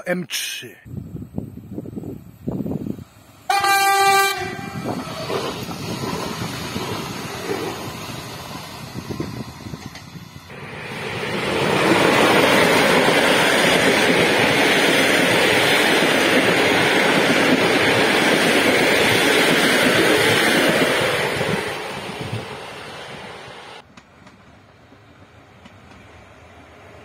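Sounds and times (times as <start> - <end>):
quieter train rolling noise: 0.9 - 27.0
train wheels rumbling on rails: 1.9 - 26.2.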